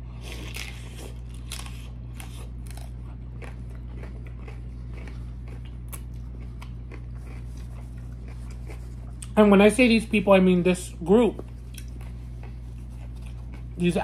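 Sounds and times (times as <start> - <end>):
crunching and chewing: 0.0 - 9.6, 11.3 - 14.0
low hum: 0.0 - 14.0.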